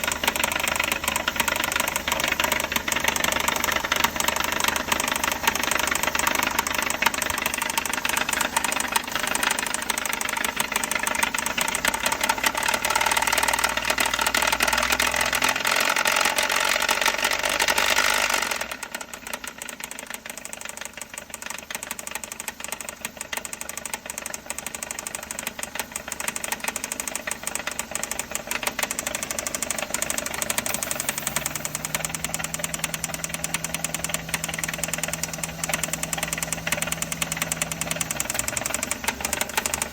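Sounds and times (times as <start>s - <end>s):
engine running with knocking: 0.0s - 39.9s.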